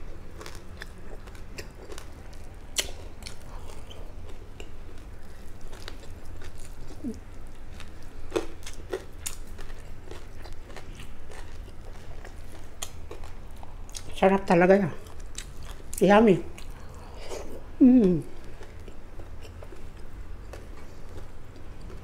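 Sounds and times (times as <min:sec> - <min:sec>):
chewing and crunching: 0:00.0 - 0:22.0.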